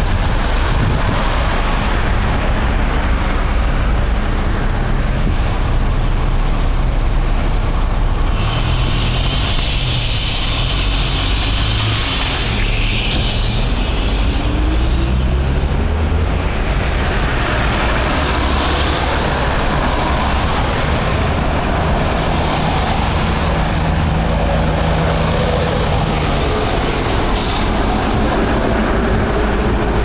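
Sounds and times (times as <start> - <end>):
constant rushing noise: 0.0 - 30.0
vehicle engine humming: 0.0 - 30.0.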